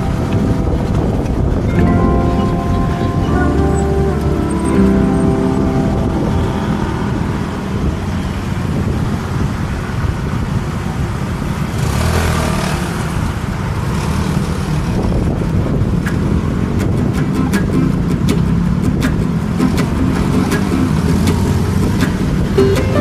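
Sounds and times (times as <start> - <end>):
passing cars and motorbikes: 0.0 - 23.0.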